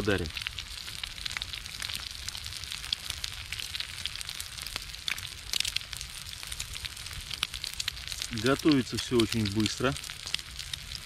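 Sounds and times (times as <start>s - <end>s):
crackling fat pops: 0.0s - 11.0s
eggs sizzling in a skillet: 0.0s - 11.0s.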